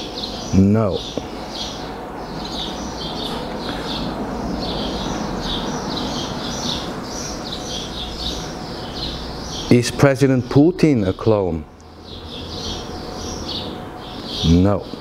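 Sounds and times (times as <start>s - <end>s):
low background noise: 0.0s - 15.0s
small birds chirping: 0.0s - 15.0s.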